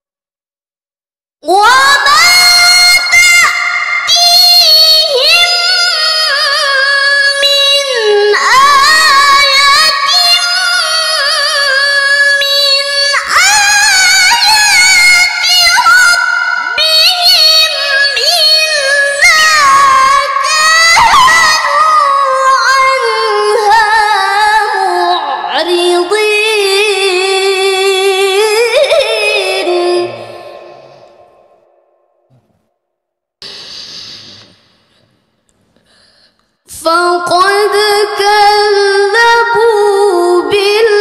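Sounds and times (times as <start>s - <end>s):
woman reciting melodically: 1.4s - 31.2s, 36.7s - 41.0s.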